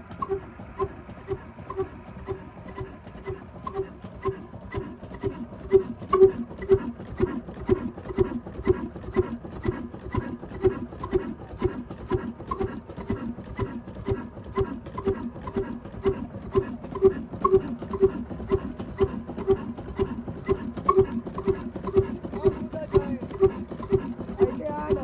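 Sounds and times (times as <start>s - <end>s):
diesel engine thumping slowly: 0.0s - 25.0s.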